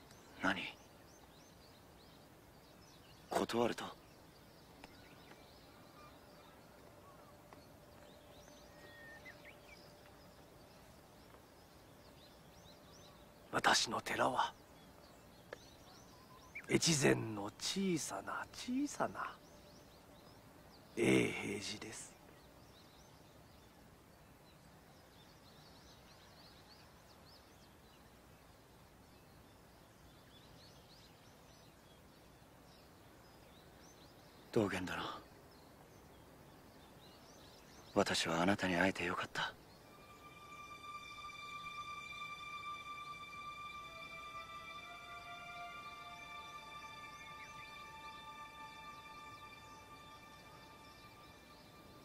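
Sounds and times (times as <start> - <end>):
faint bird chirps: 0.0 - 52.0.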